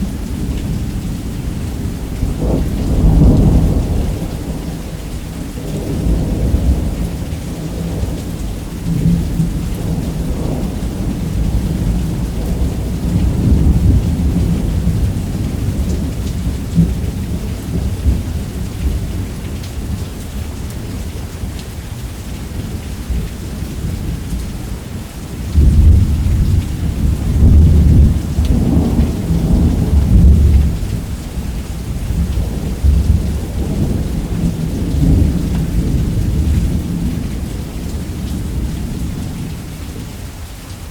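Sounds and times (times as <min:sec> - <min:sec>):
thunder rumbling: 0:00.0 - 0:21.2, 0:22.4 - 0:40.0
heavy rain: 0:00.0 - 0:40.9.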